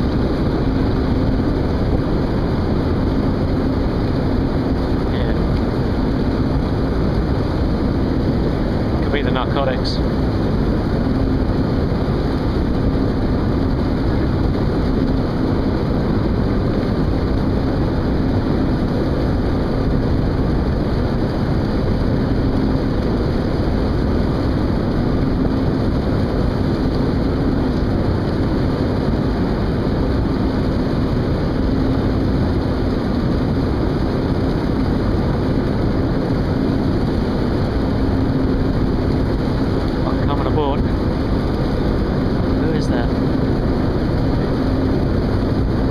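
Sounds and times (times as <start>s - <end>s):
boat engine drone: 0.0s - 45.9s.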